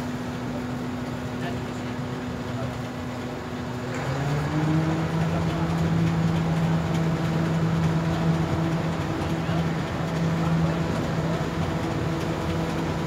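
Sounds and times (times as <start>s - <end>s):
ferry engine running and revving: 0.0s - 13.0s.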